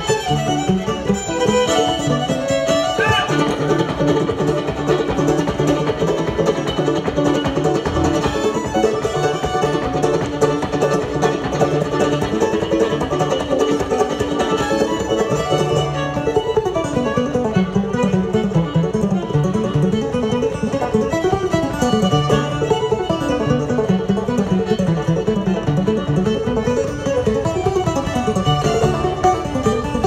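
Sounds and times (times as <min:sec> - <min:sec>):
banjo playing: 0:00.0 - 0:30.0
fiddle playing: 0:00.0 - 0:30.0
string band music: 0:00.0 - 0:30.0.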